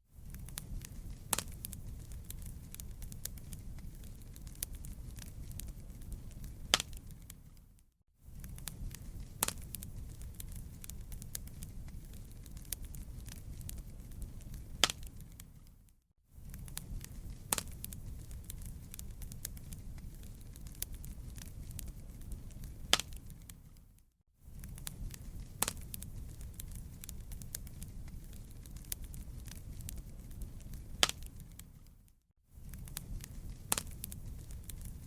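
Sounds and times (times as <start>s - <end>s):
wood fire crackling: 0.2s - 35.0s.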